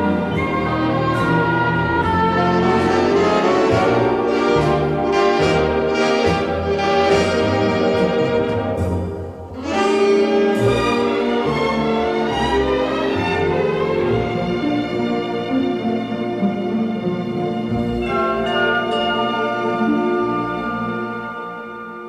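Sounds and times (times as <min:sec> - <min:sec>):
orchestral music with brass: 0:00.0 - 0:22.0.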